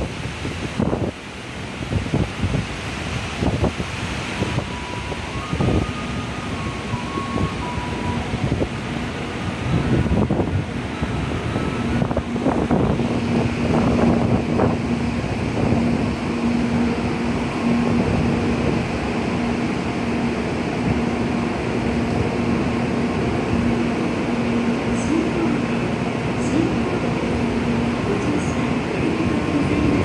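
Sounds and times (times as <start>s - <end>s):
rain: 0.0s - 30.0s
wind rushing: 0.0s - 30.0s.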